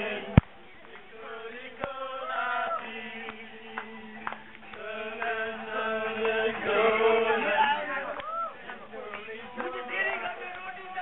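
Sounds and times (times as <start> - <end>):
voices chanting together: 0.0 - 11.0.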